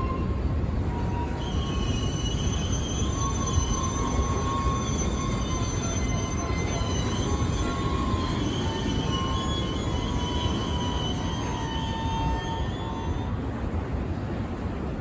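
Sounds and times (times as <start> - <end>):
freight train cars rumbling: 0.0 - 15.0
wheel flanges squealing: 0.8 - 13.4.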